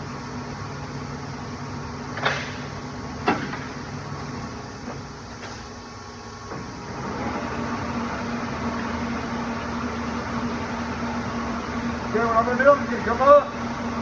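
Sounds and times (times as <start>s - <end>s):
shop machinery hum: 0.0s - 14.0s.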